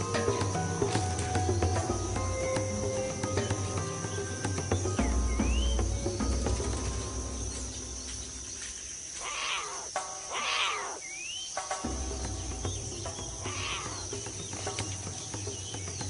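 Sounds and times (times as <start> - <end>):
background music: 0.0 - 8.9, 10.0 - 16.0
high insect chorus: 0.0 - 16.0
rising bird chirp: 0.0 - 16.0.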